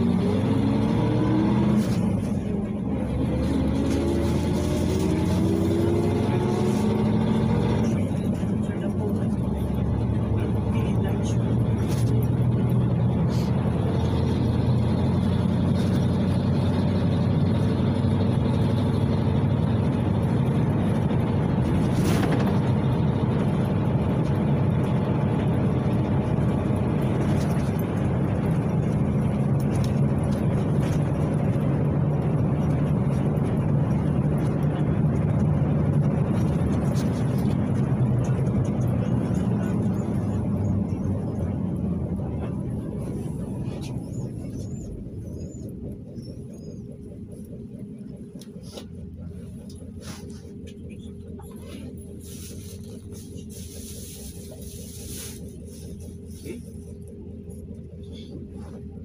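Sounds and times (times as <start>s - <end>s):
bus engine and road noise: 0.0s - 59.0s.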